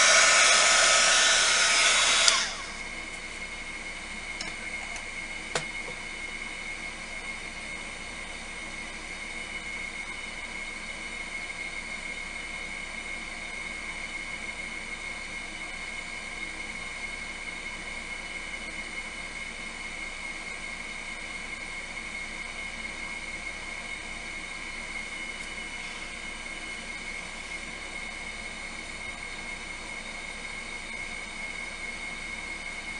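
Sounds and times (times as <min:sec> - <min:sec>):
constant high whine: 0:00.0 - 0:32.9
fan appliance whirring hiss: 0:00.0 - 0:32.9.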